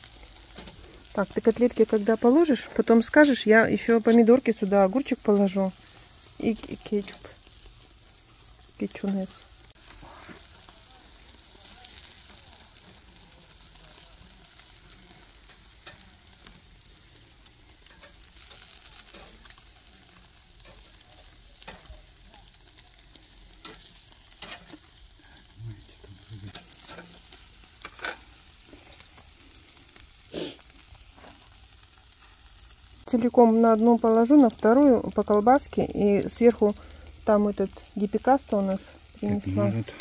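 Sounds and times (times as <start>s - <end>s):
meat sizzling on a grill: 0.0s - 40.0s.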